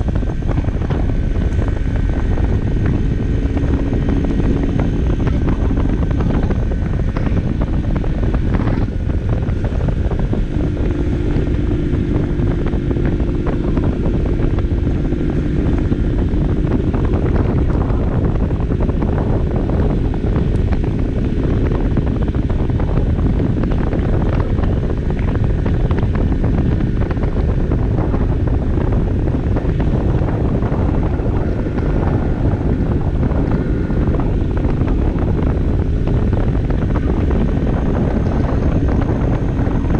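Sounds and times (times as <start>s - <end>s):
moped engine running: 0.0s - 39.9s
wind rush on microphone: 0.0s - 39.9s.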